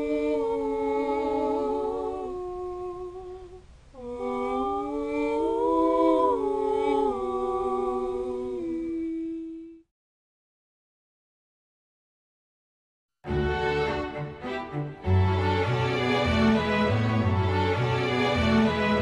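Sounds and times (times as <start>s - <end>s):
voices humming in harmony: 0.0s - 9.8s, 13.3s - 19.0s.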